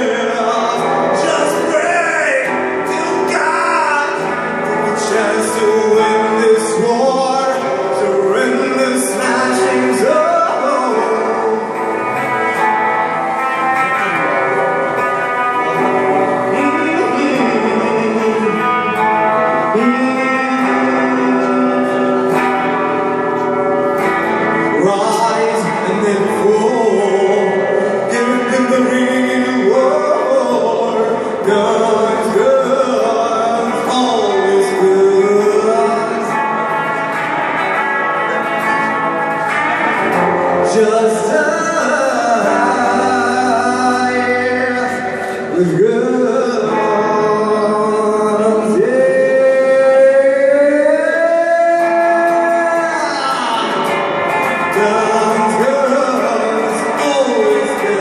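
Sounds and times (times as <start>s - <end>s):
electric guitar strumming: 0.0s - 58.0s
man singing into a microphone: 0.0s - 58.0s.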